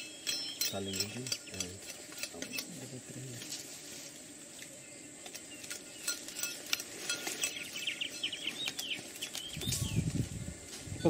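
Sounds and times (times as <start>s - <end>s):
small bird chirping: 0.0s - 3.4s, 4.5s - 11.0s.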